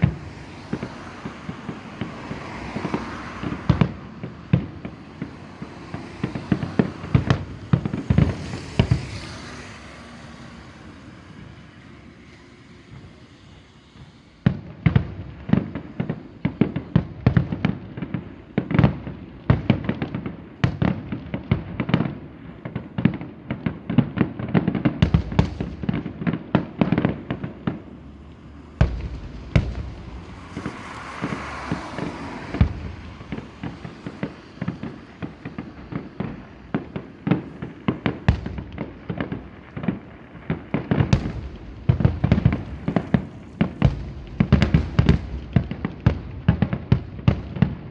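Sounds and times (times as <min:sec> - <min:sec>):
fireworks hissing: 0:00.0 - 0:18.8, 0:25.0 - 0:46.7
fireworks booming: 0:00.0 - 0:47.9.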